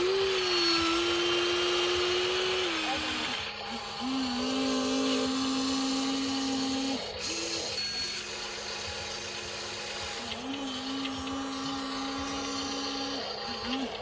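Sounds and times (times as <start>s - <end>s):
small electric motors whining: 0.0s - 14.0s.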